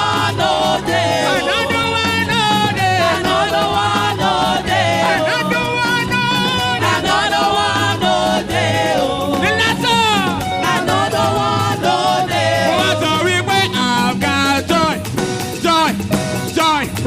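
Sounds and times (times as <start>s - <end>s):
people singing: 0.0s - 15.1s
band playing dance rhythm: 0.0s - 17.0s.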